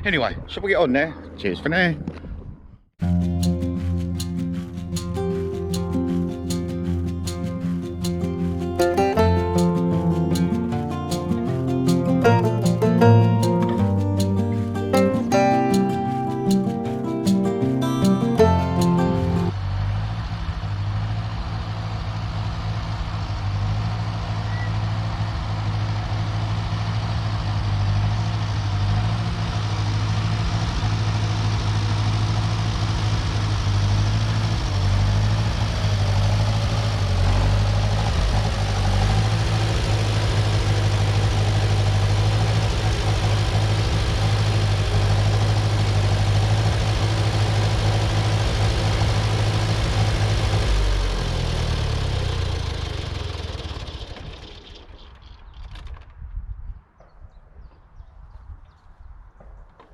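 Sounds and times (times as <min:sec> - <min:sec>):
tractor engine running: 0:03.0 - 0:56.0.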